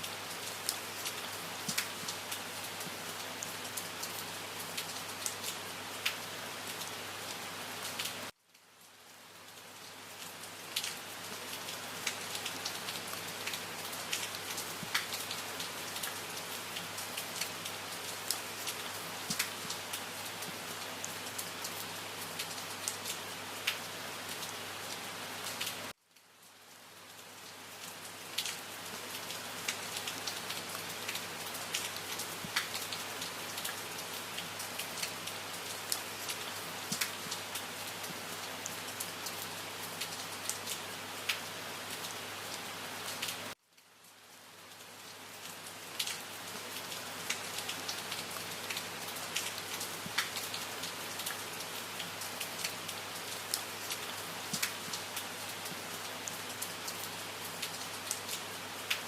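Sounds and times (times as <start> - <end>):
rain drops striking a surface: 0.0 - 59.0.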